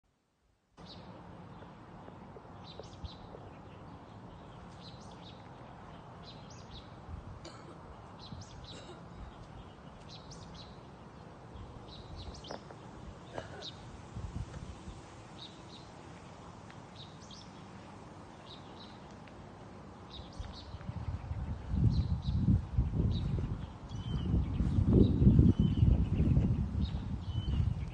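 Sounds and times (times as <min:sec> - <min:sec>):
low background noise: 0:00.1 - 0:27.9
small birds chirping: 0:00.8 - 0:27.9.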